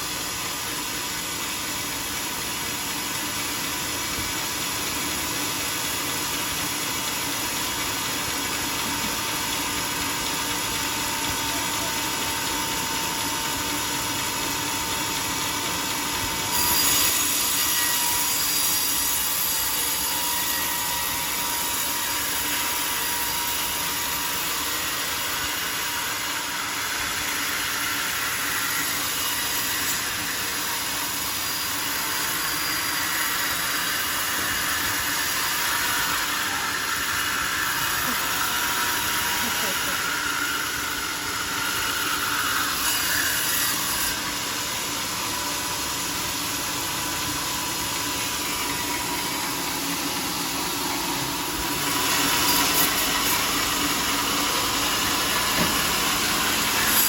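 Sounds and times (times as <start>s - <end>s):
sawmill saw cutting log: 0.0s - 57.0s.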